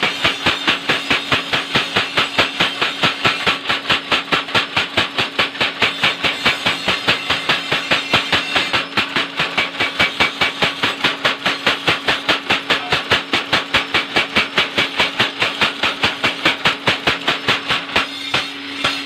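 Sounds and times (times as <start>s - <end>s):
power hammer pounding metal: 0.0s - 19.0s
steady machine hum: 0.0s - 19.0s.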